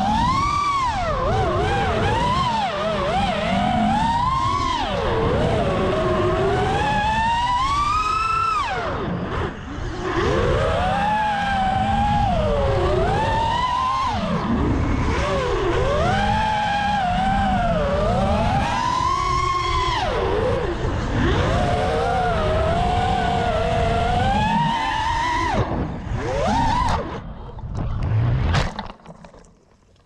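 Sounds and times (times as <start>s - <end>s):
drone motors whining: 0.0s - 28.9s.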